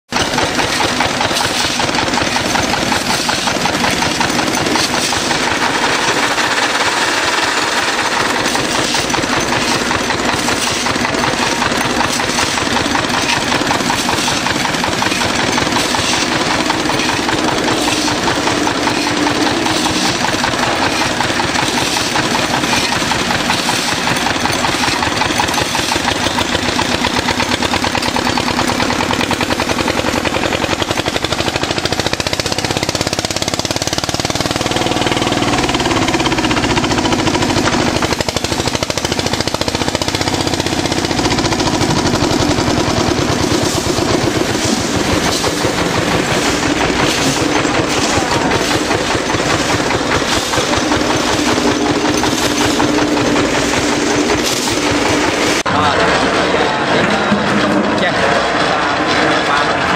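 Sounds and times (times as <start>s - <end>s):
concrete mixer engine knocking: 0.1s - 59.9s.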